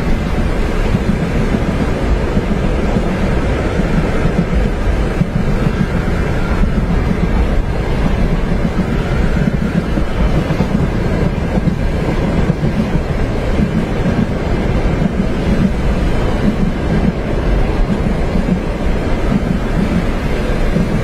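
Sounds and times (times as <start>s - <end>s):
train rumbling on tracks: 0.0s - 21.0s
wind noise: 0.0s - 21.0s.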